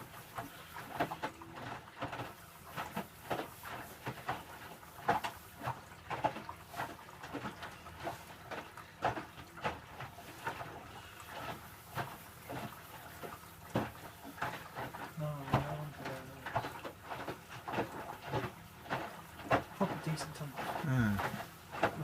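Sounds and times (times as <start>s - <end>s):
washing machine drum tumbling: 0.0s - 22.0s
wet load sloshing and thudding: 0.0s - 22.0s.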